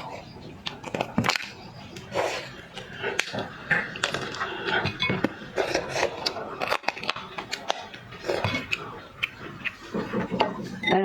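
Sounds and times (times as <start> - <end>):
lobster shell cracking: 0.0 - 10.3.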